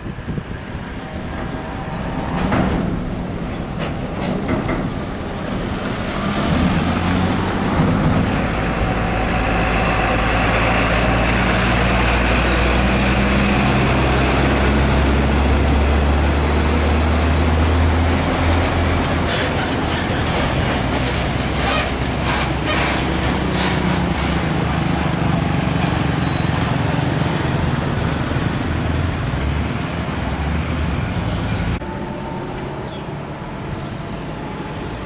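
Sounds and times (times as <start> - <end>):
tyre and road noise: 0.0 - 35.0
truck diesel engine driving past: 4.9 - 35.0.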